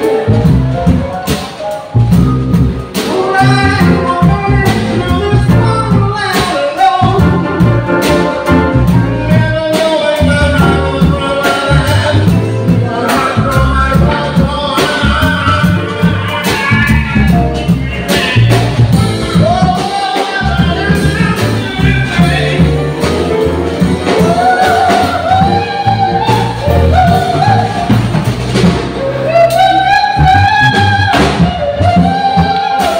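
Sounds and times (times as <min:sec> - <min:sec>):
double bass: 0:00.0 - 0:32.9
drum kit: 0:00.0 - 0:32.9
piano: 0:00.0 - 0:32.9
man singing into a microphone: 0:03.0 - 0:23.2, 0:23.9 - 0:28.1, 0:29.0 - 0:32.9.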